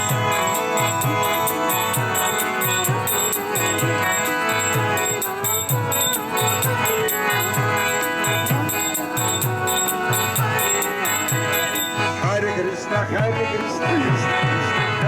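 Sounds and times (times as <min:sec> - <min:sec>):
sustained instrumental drone: 0:00.0 - 0:12.4.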